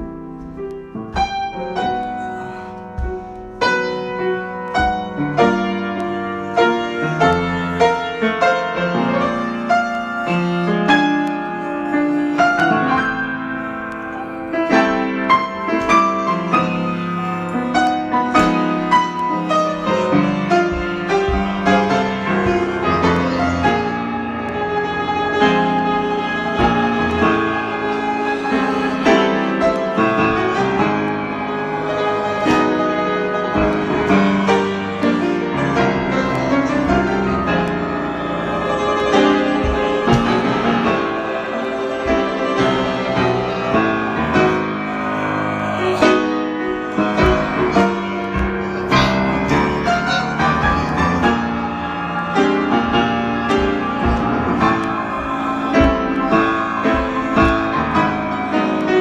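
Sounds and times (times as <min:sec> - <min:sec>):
improvised piano piece: 0:00.0 - 0:59.0.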